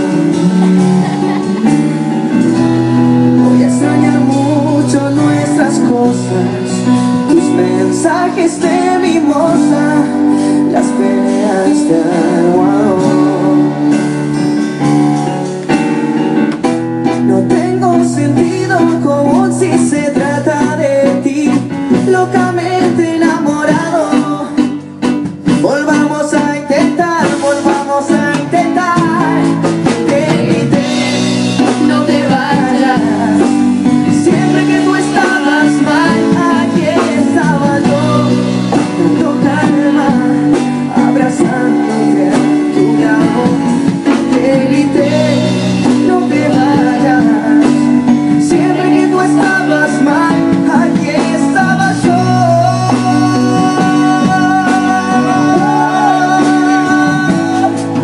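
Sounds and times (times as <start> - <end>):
man singing: 0.0 - 14.9, 17.0 - 58.0
drum kit beat: 0.0 - 58.0
guitar: 0.0 - 58.0.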